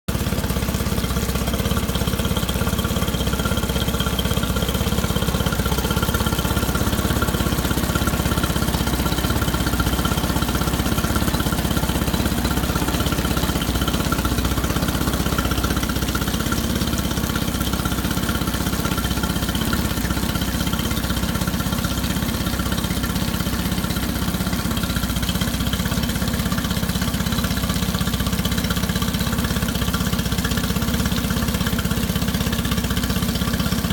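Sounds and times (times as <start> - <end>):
outboard motor idling: 0.1 - 33.9.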